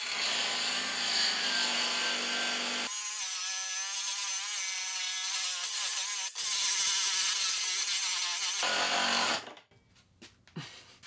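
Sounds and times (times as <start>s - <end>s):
angle grinder grinding steel: 0.0s - 9.6s.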